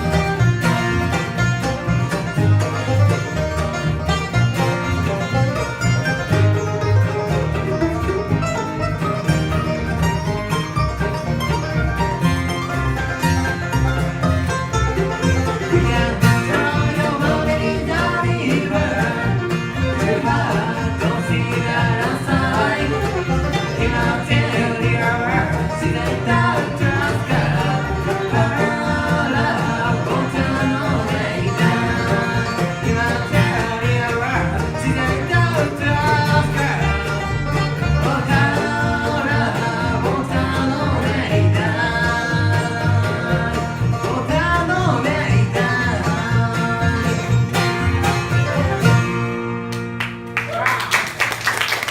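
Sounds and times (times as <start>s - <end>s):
bass line: 0.0s - 50.8s
banjo: 0.0s - 51.9s
bluegrass band playing: 0.0s - 51.9s
guitar: 0.0s - 51.9s.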